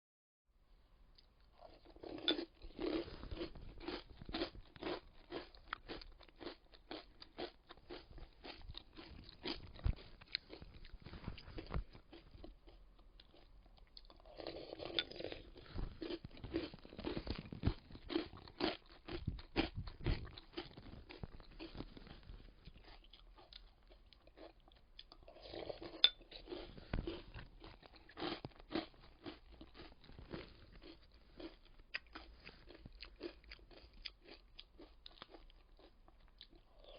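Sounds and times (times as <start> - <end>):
chewing crunchy cereal: 1.2 - 36.9.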